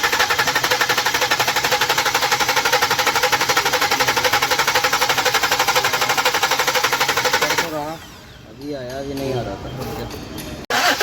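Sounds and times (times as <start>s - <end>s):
car engine clattering: 0.0s - 11.0s.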